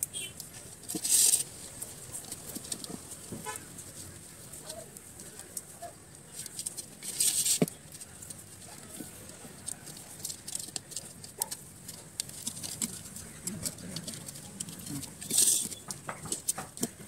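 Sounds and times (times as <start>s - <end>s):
wire scraping against clay pot: 0.0s - 17.0s.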